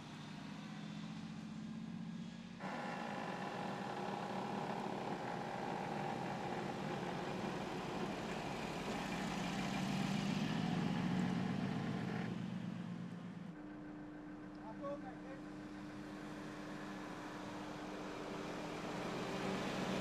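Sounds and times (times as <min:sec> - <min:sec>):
car engine humming at low revs: 0:00.0 - 0:20.0
vehicle crossing wooden bridge: 0:02.6 - 0:20.0.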